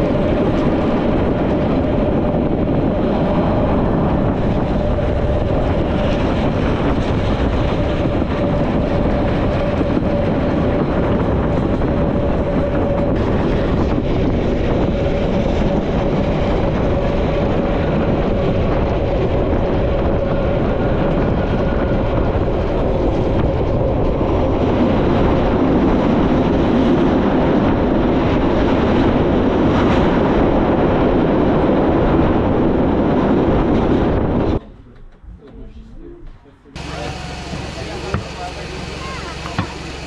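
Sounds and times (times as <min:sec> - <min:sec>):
train rolling noise: 0:00.0 - 0:40.0.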